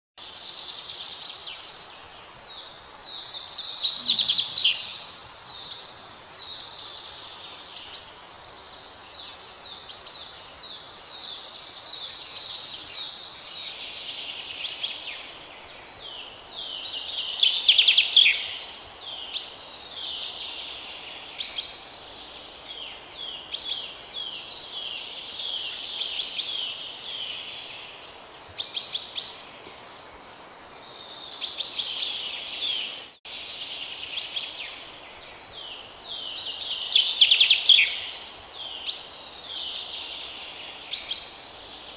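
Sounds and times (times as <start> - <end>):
birds singing chirps and trills: 0.2 - 41.9
faint steady hiss: 0.2 - 41.9.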